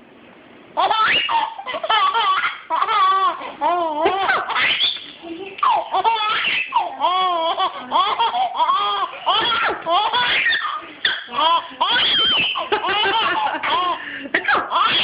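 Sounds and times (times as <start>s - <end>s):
baby laughing: 0.8s - 15.0s.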